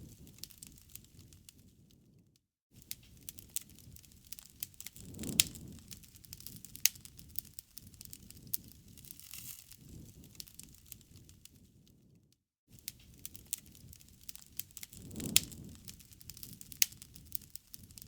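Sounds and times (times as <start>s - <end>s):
bonfire crackling: 0.0s - 2.2s, 2.8s - 18.0s.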